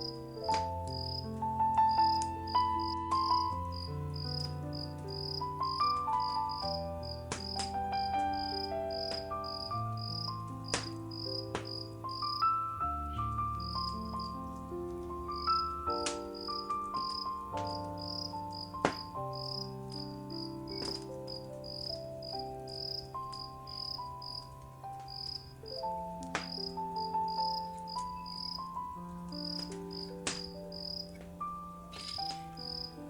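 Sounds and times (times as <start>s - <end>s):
crickets chirping: 0.0s - 33.0s
soft sustained music: 0.0s - 33.0s
wood fire crackling: 0.0s - 33.0s.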